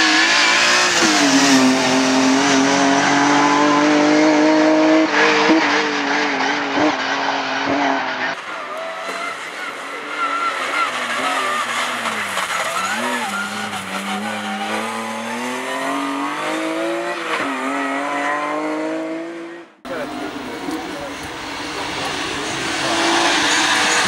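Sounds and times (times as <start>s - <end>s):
car engine revving: 0.0s - 8.5s, 10.6s - 24.0s
tyre and road noise: 0.0s - 24.0s.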